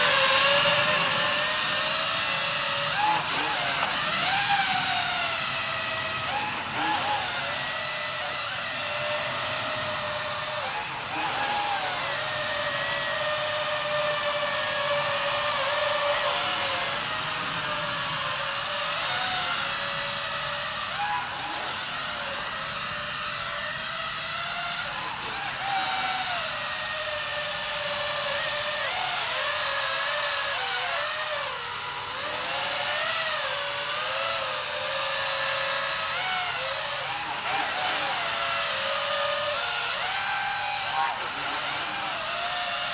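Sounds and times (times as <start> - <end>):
toy quadcopter motors whining: 0.0 - 42.9.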